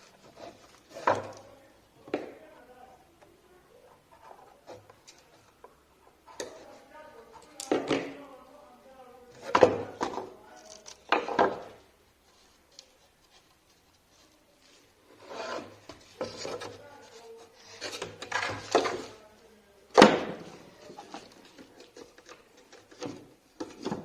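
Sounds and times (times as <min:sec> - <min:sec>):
wooden parts scraping and rubbing: 0:00.0 - 0:08.3, 0:09.3 - 0:19.3, 0:20.0 - 0:24.0.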